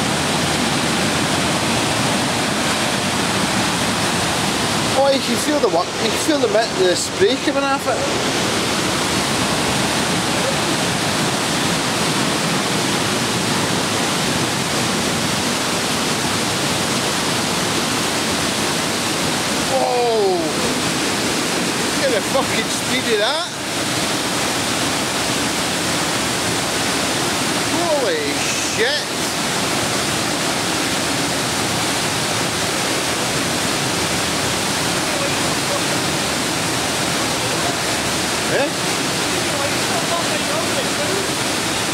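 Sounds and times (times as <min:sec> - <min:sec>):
underground waterfall rushing: 0:00.0 - 0:41.9.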